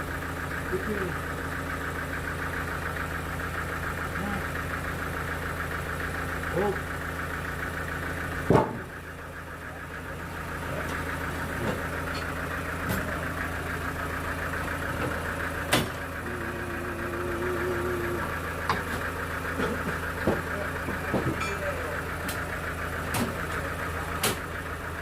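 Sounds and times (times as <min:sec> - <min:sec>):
engine idling with rattle: 0:00.0 - 0:25.0.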